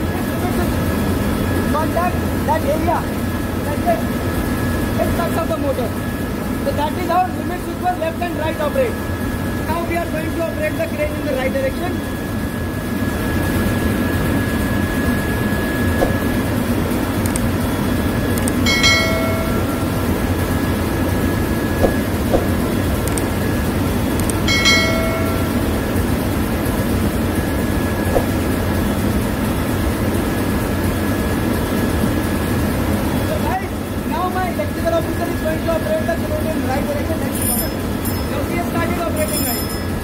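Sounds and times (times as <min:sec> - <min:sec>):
overhead crane travel motor: 0:00.0 - 0:36.9
engine-room machinery noise: 0:00.0 - 0:40.0.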